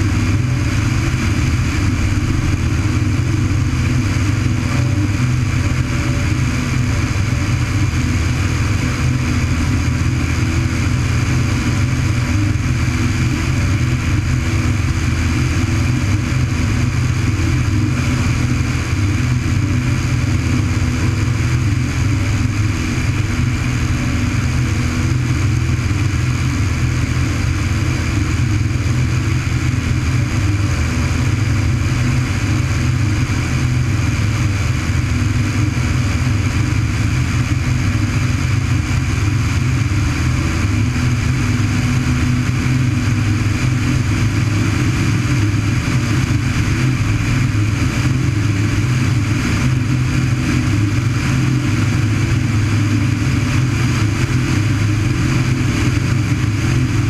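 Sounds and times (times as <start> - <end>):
propeller aircraft engine running: 0.0 - 57.0.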